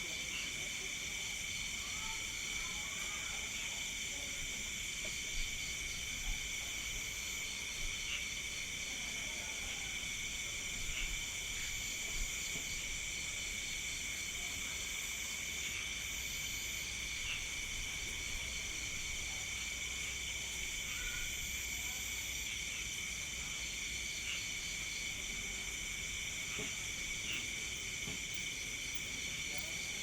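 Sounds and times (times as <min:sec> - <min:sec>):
crickets and insects trilling: 0:00.0 - 0:30.0.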